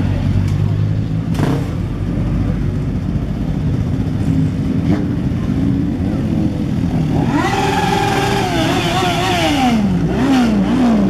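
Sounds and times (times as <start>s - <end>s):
motorcycle engines running: 0.0s - 11.0s
motorcycle engine revving: 1.1s - 2.8s, 3.5s - 11.0s.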